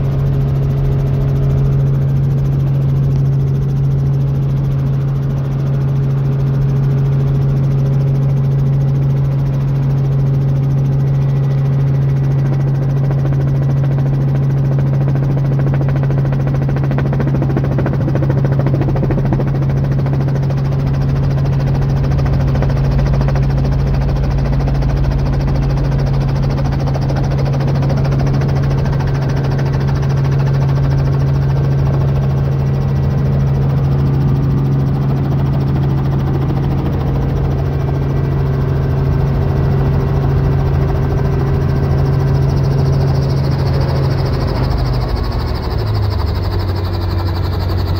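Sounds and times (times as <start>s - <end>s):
helicopter engine and rotors droning: 0.0s - 47.9s.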